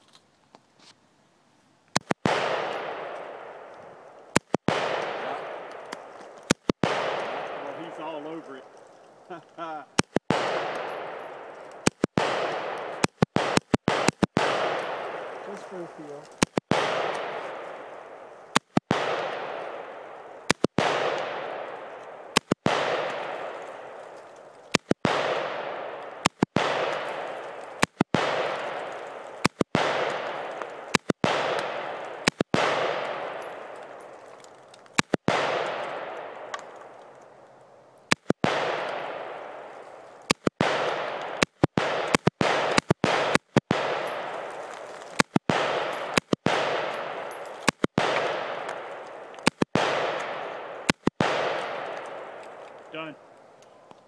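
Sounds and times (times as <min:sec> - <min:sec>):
rifle shots with echo: 0:02.0 - 0:53.2.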